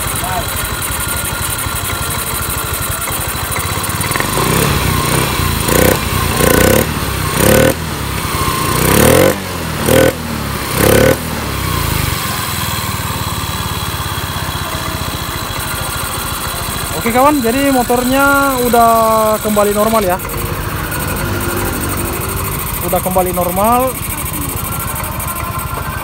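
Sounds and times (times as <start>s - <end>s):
scooter engine idling and revving: 0.0s - 26.0s.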